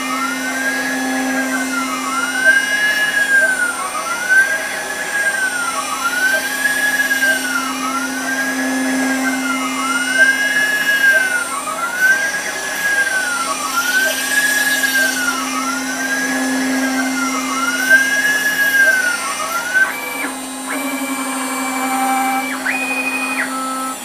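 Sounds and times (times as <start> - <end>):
axis motors whining: 0.0 - 24.0
router spindle humming: 0.0 - 24.0.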